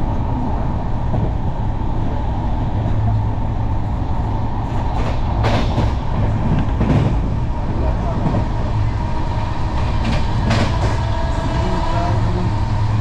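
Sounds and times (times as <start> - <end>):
train rumble inside coach: 0.0 - 13.0.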